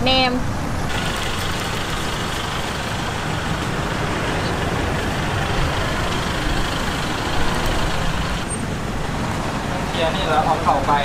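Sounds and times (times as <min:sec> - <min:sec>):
loud rumbling background noise: 0:00.0 - 0:11.0.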